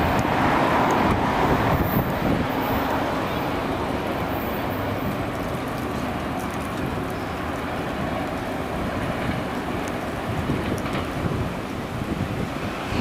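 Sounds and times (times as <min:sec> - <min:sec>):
steel wheels rumbling on rails: 0:00.0 - 0:13.0.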